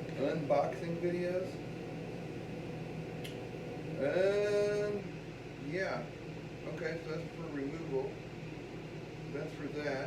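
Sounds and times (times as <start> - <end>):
room hum: 0.0 - 10.0.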